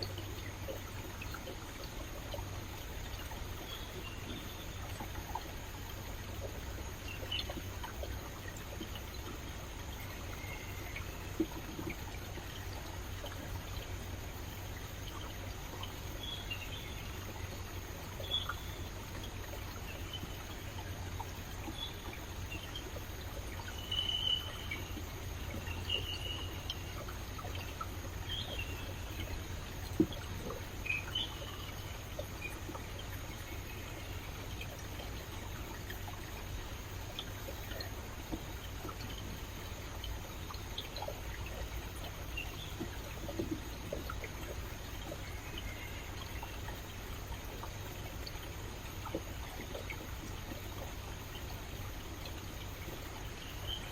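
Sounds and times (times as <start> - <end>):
stream flowing and trickling: 0.0 - 53.9.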